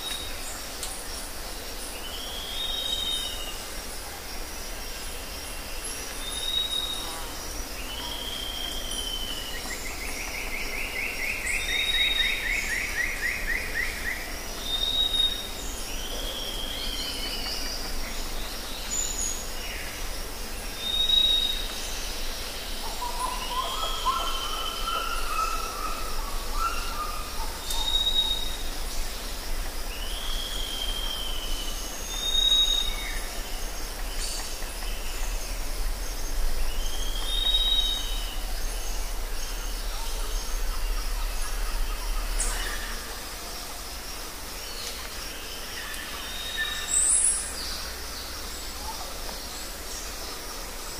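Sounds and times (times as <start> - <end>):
insects hissing: 0.0 - 50.9.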